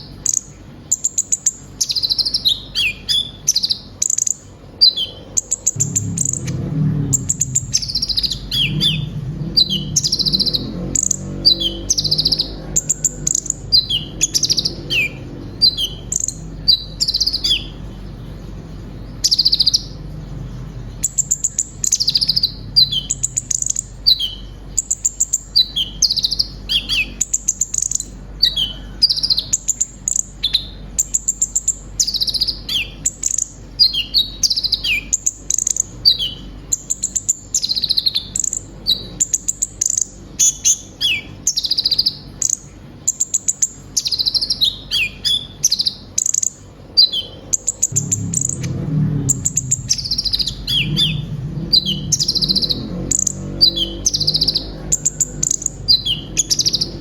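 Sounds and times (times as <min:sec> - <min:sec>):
sunbird singing: 0:00.0 - 0:57.0
low hum: 0:01.7 - 0:37.0, 0:43.7 - 0:57.0.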